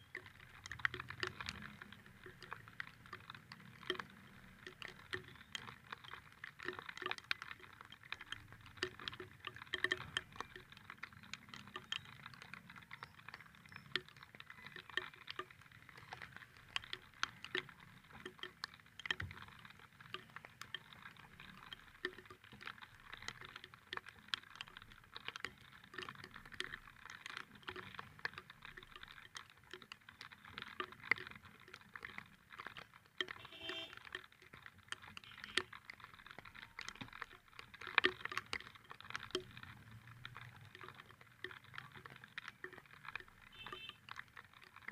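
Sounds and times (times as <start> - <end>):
raindrops pattering: 0.0 - 44.9.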